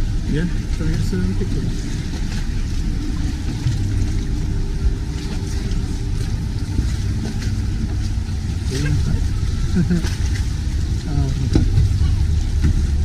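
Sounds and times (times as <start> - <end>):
motorboat engines rumbling: 0.0 - 13.0.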